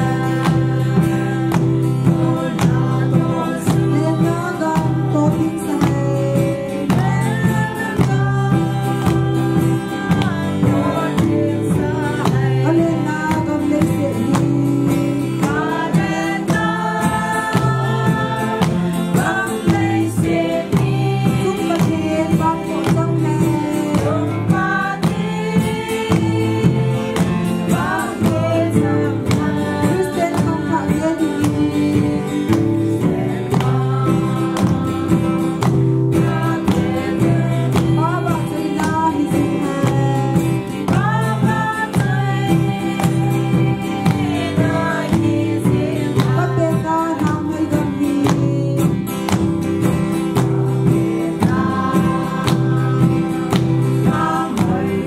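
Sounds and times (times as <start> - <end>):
acoustic guitar strumming: 0.0 - 55.0
group singing a hymn: 0.0 - 55.0.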